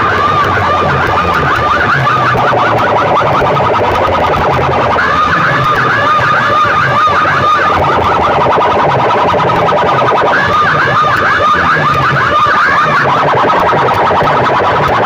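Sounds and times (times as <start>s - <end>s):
low bass pattern: 0.0s - 12.4s
warbling siren-like electronic tone: 0.0s - 15.0s.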